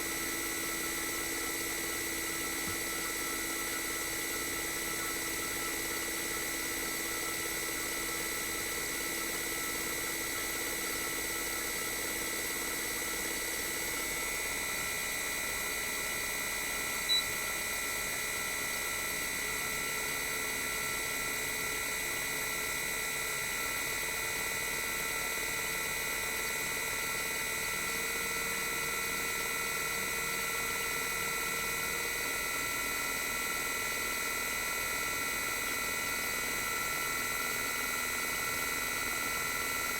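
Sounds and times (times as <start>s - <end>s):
compressor inverter whine: 0.0s - 39.9s.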